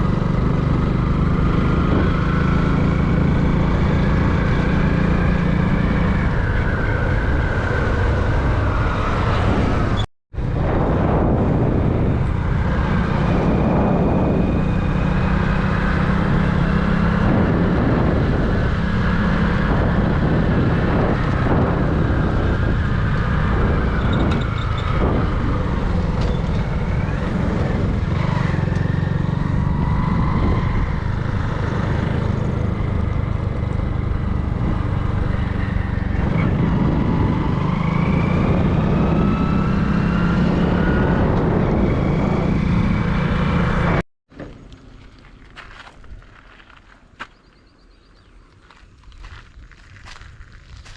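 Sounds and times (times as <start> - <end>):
noisy rush: 0.0 - 44.0
vehicle engine humming: 0.0 - 50.9.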